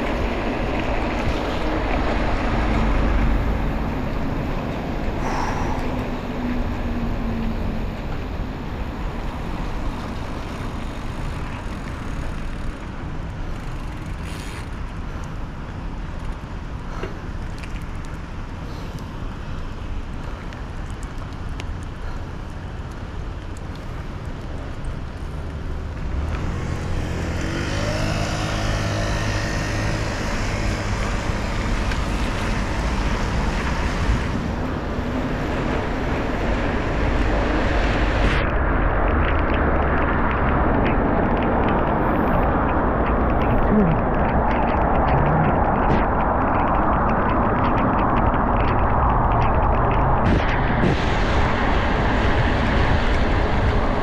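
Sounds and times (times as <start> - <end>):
passing road traffic: 0.0 - 54.0
wind rumbling on microphone: 0.0 - 54.0.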